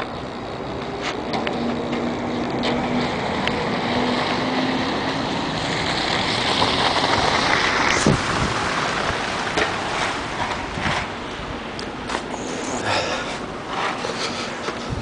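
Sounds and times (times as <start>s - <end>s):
wind on microphone: 0.0s - 11.7s, 14.7s - 15.0s
traffic on slushy pavement: 0.0s - 15.0s.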